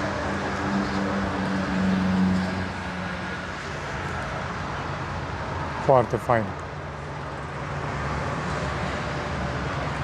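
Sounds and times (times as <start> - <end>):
outdoor background noise: 0.0 - 10.0
vehicle engine humming: 0.0 - 10.0.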